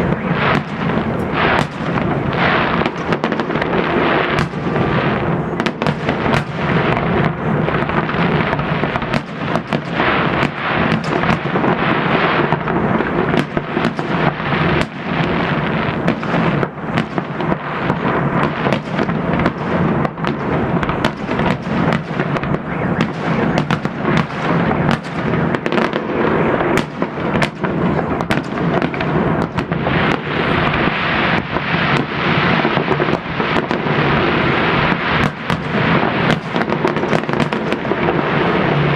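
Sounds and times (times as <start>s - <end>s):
fireworks shells bursting: 0.0s - 38.9s.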